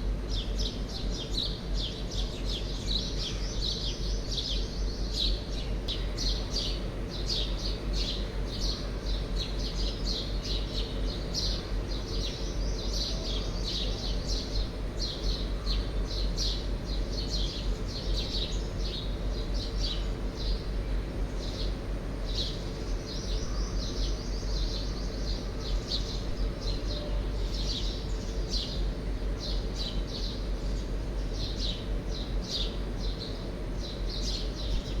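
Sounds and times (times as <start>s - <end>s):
small birds chirping: 0.0s - 35.0s
steady low hum: 0.0s - 35.0s.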